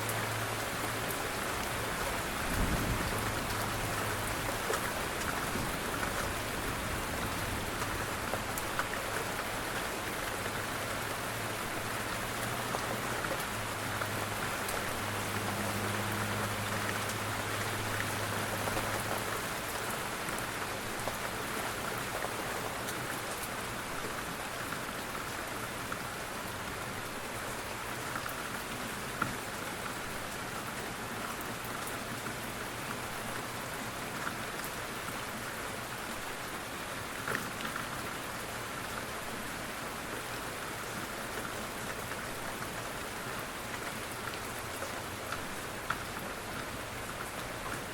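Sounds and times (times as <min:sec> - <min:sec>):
rain pattering on a surface: 0:00.0 - 0:47.9.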